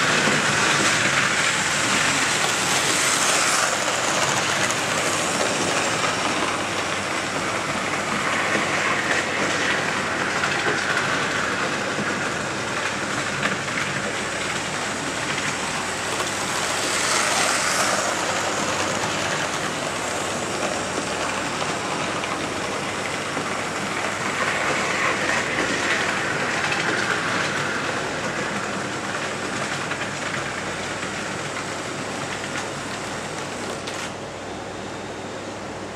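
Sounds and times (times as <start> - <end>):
model train wheels clattering on track: 0.0 - 34.2.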